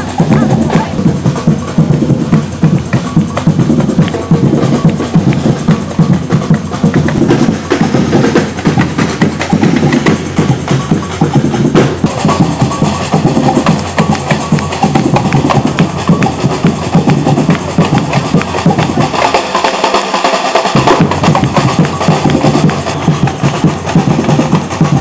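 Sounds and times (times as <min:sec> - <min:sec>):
samba percussion band: 0:00.0 - 0:25.0.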